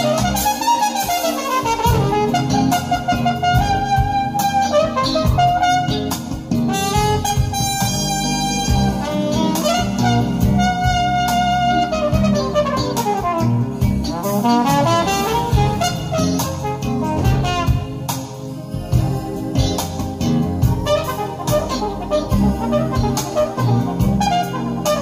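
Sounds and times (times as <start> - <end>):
bass and drums: 0.0 - 25.0
horn melody of long notes: 0.0 - 25.0
jazz record playing: 0.0 - 25.0.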